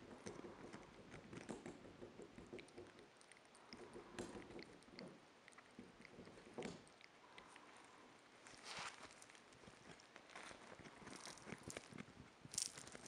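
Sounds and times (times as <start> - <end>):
animal gnawing pumpkin: 0.0 - 13.0.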